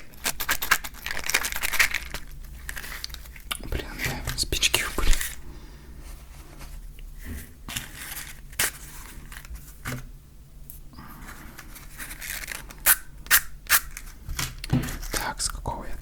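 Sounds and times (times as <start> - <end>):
matches scratching and rustling: 0.0 - 5.4, 6.3 - 10.0, 11.2 - 15.5.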